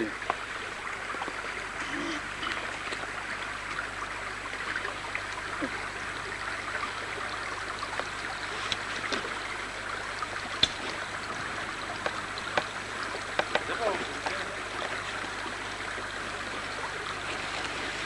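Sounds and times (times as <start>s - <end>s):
creek babbling: 0.0s - 18.0s.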